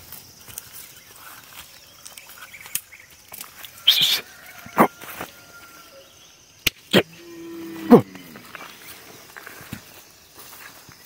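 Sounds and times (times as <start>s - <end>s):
birds calling and chirping: 0.4s - 11.0s.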